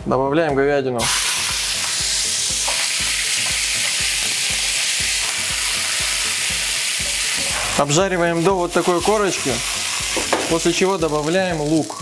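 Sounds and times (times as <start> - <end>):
beef sizzling in frying pan: 1.0 - 12.0.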